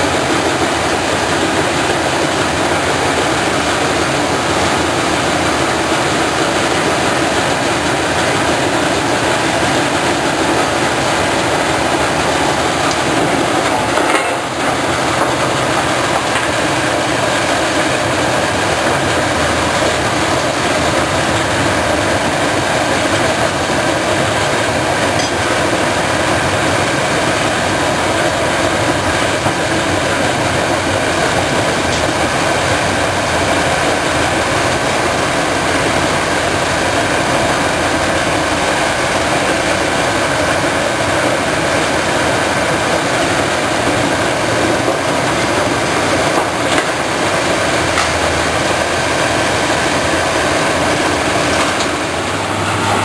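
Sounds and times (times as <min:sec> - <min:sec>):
crusher engine: 0:00.0 - 0:53.0
excavator working: 0:00.0 - 0:53.0.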